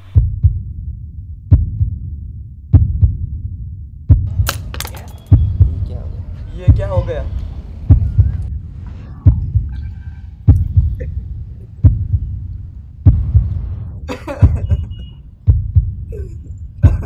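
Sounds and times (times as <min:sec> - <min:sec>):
heartbeat: 0:00.1 - 0:04.4, 0:05.2 - 0:06.0, 0:06.7 - 0:07.1, 0:07.8 - 0:17.0.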